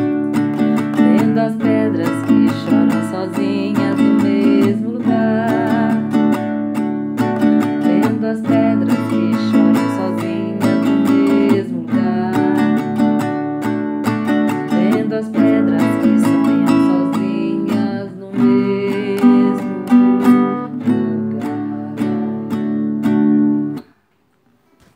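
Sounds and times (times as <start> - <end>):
acoustic guitar strumming: 0.0 - 24.9.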